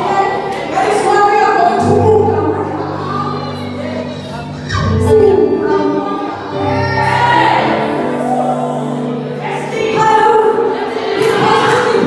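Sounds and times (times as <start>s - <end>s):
choir singing: 0.0s - 12.0s.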